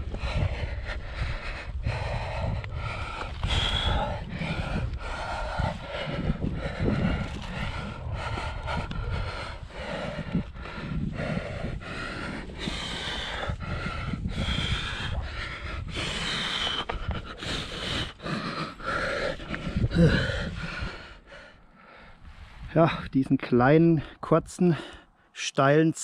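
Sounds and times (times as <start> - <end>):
man panting: 0.0 - 23.1, 24.0 - 25.3.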